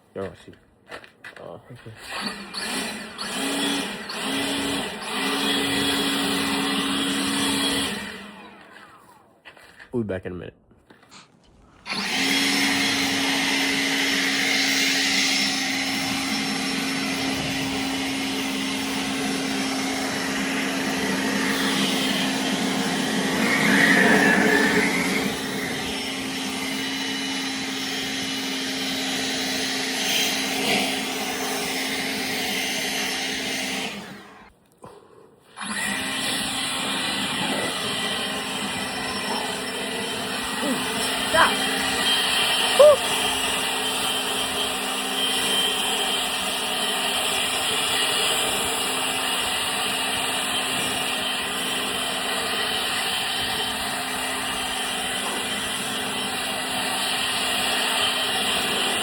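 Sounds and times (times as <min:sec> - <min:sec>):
leaf blower running: 0:02.0 - 0:09.0, 0:11.8 - 0:34.5, 0:35.5 - 0:59.0.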